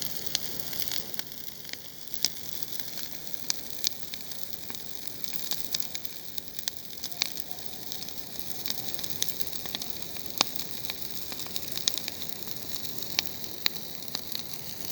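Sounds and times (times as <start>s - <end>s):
bonfire crackling and hissing: 0.0s - 14.9s.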